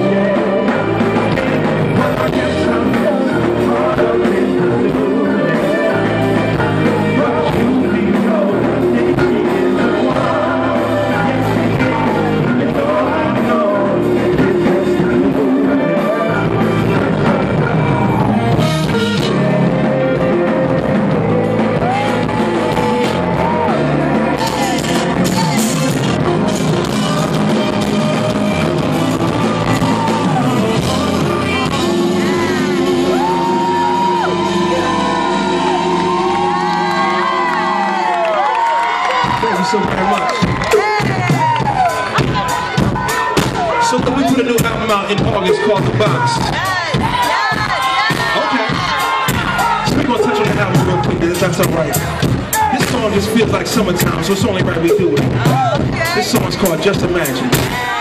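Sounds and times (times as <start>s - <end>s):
man singing live with band: 0.0s - 58.0s.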